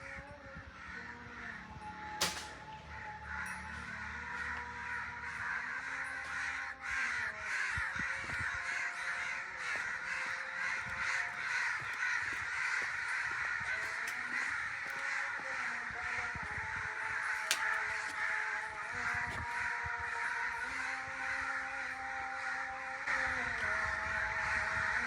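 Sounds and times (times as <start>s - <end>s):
crows cawing: 0.0s - 25.0s.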